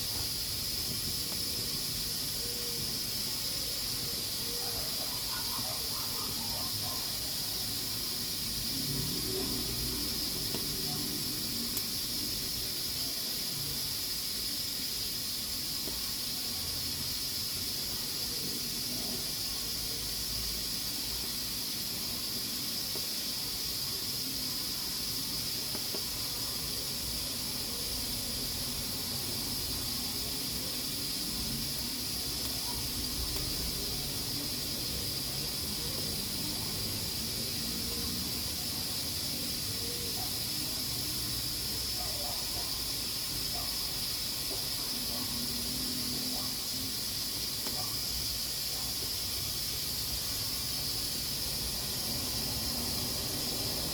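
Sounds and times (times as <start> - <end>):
pressure cooker valve hissing: 0.0 - 53.9.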